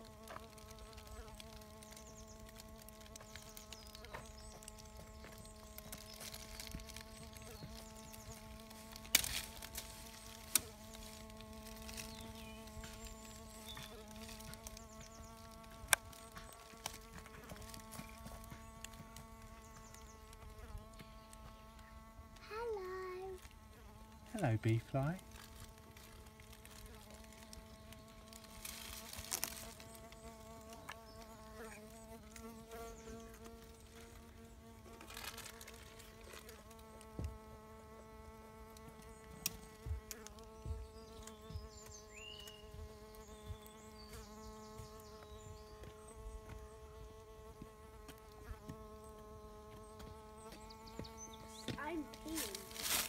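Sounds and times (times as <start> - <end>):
bee fly buzzing hum: 0.0 - 53.0.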